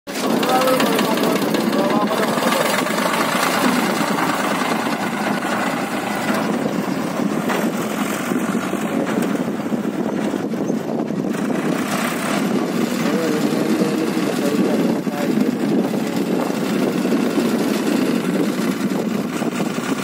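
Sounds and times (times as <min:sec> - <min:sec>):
tractor diesel engine running: 0:00.1 - 0:20.0.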